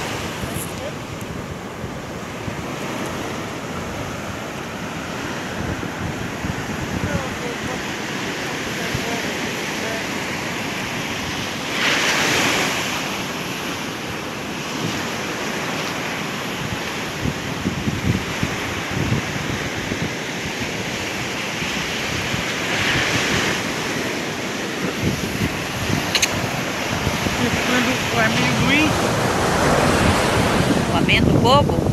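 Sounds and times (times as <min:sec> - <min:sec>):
ocean surf breaking on beach: 0:00.0 - 0:31.9
wind buffeting microphone: 0:00.0 - 0:31.9.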